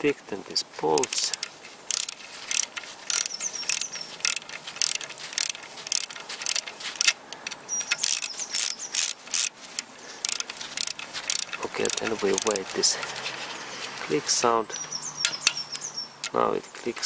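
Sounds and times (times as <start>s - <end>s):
torque wrench ratchet clicking: 1.0s - 13.2s, 14.8s - 16.4s.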